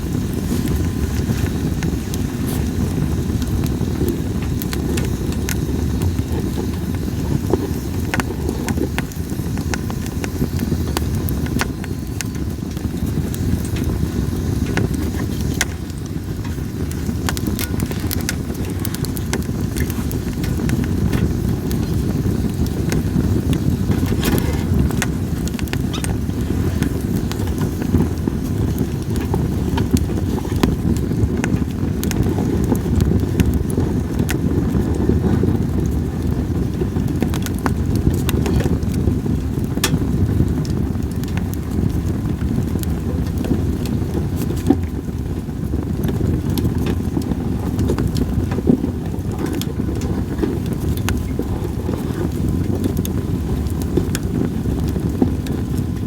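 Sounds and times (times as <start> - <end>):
campfire logs crackling: 0.0 - 56.0
sharp pops of fire: 0.0 - 56.0
steady low rumble: 0.0 - 56.0.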